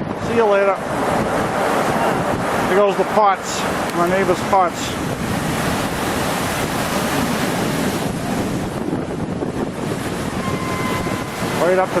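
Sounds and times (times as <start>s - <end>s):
storm waves surging: 0.0s - 12.0s
wind buffeting microphone: 0.0s - 12.0s.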